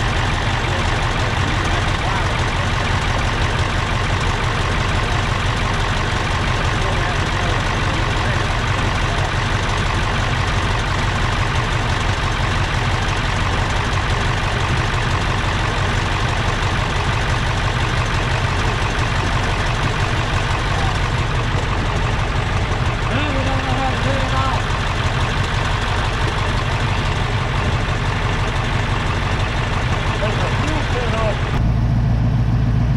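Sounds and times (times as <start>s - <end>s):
tractor diesel engine idling: 0.0s - 32.9s.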